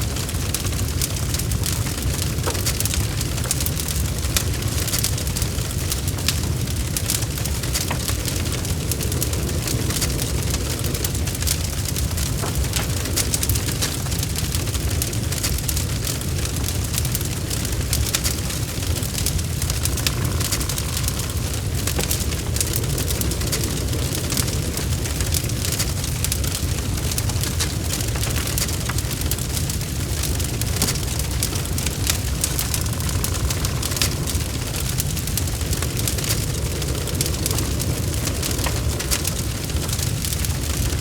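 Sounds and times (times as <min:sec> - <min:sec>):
burning wood crackling: 0:00.0 - 0:41.0
fire flames rumbling: 0:00.0 - 0:41.0.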